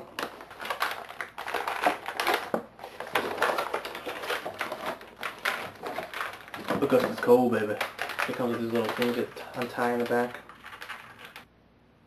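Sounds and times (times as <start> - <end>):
plastic packaging crackling: 0.0 - 11.5.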